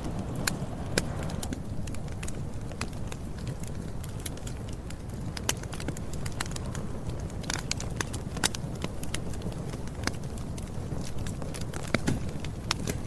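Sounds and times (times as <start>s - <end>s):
campfire rumble: 0.0s - 13.0s
wood crackling and popping: 0.0s - 13.0s.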